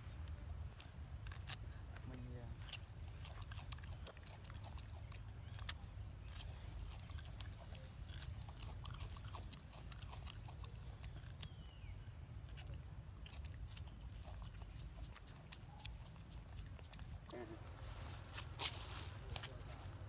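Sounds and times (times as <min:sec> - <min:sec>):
monkeys crunching and chewing: 0:00.3 - 0:20.0.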